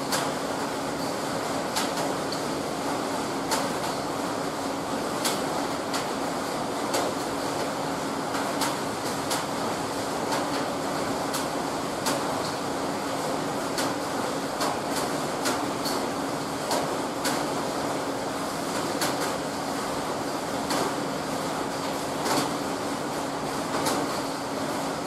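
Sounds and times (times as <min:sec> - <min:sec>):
steady hum and hiss: 0:00.0 - 0:25.0.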